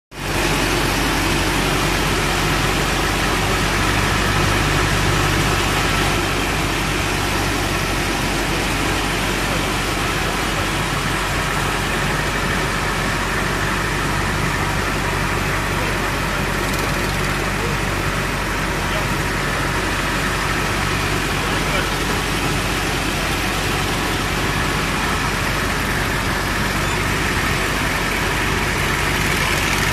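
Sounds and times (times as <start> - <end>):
boat engine droning: 0.1 - 29.9.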